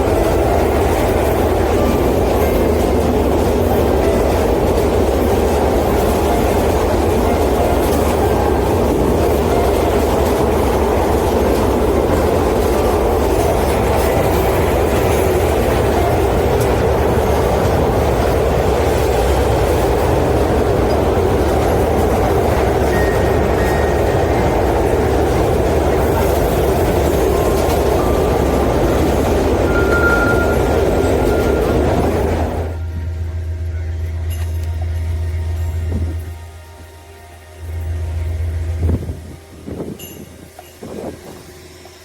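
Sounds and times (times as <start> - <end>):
train rumbling on rails: 0.0 - 42.0.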